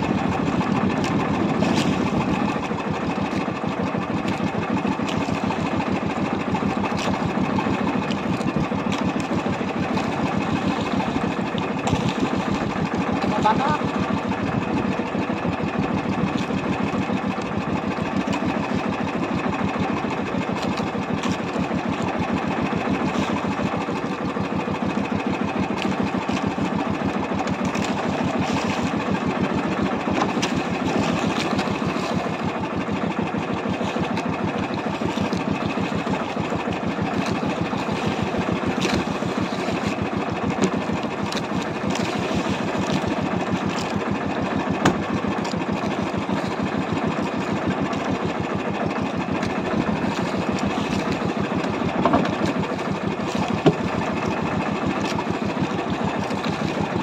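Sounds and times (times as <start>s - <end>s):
small boat engine chugging: 0.0s - 57.0s.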